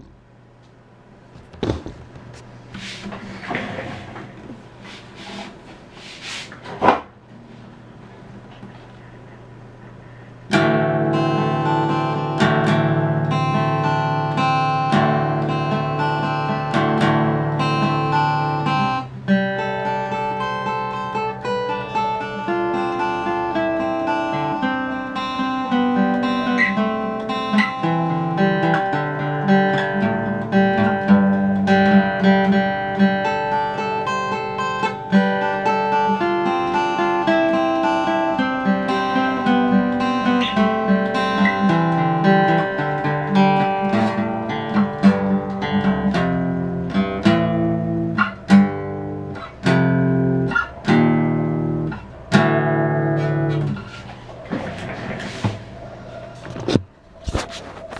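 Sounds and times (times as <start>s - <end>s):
fingerstyle acoustic guitar: 1.4s - 57.9s.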